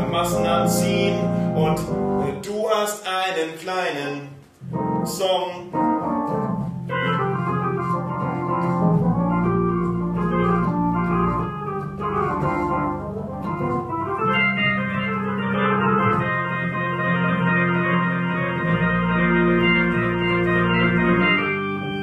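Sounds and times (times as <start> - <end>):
piano chords over bass line: 0.0 - 2.8, 4.6 - 22.0.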